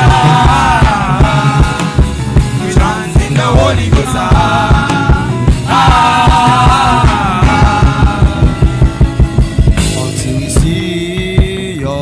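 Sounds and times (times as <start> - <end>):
kick drum beat: 0.0 - 9.9.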